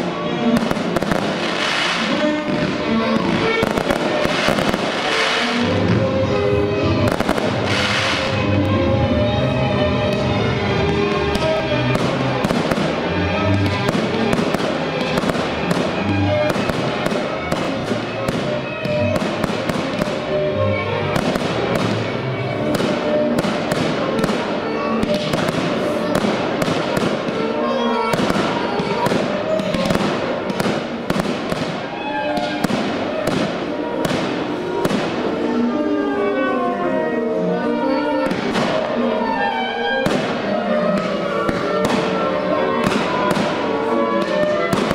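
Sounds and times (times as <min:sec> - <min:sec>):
fireworks bursting and crackling: 0:00.0 - 0:36.4, 0:37.6 - 0:44.9
music playing: 0:00.0 - 0:44.9.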